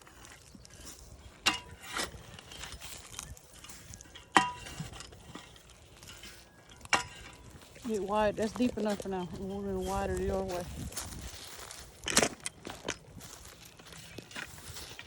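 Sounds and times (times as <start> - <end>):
shovel digging into soil: 0.0 - 15.0.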